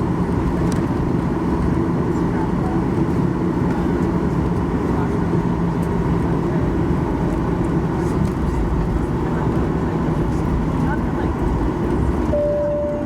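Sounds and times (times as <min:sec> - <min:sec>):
aircraft cabin engine hum: 0:00.0 - 0:13.0.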